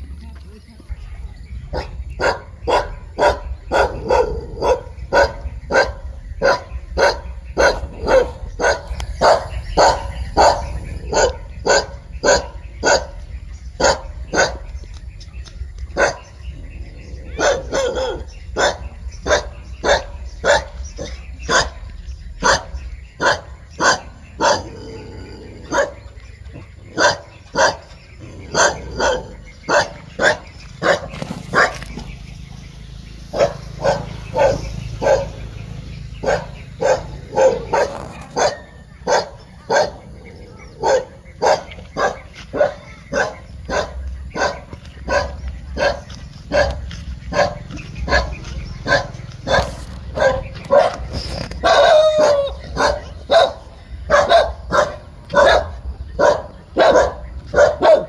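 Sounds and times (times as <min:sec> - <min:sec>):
dog barking: 0:01.7 - 0:14.8, 0:16.0 - 0:16.4, 0:17.2 - 0:25.0, 0:25.6 - 0:26.1, 0:26.8 - 0:32.0, 0:33.3 - 0:58.0.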